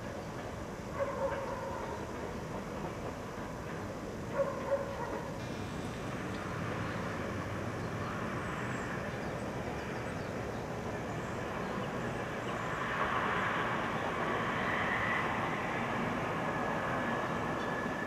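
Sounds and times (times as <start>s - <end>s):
city background noise: 0.0s - 18.0s
distant train rumbling: 0.0s - 18.0s
faint high whine: 0.0s - 18.0s.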